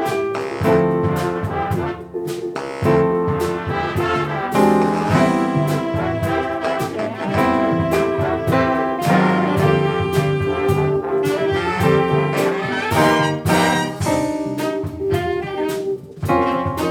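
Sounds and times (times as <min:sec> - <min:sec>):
big band playing jazz: 0:00.0 - 0:16.9.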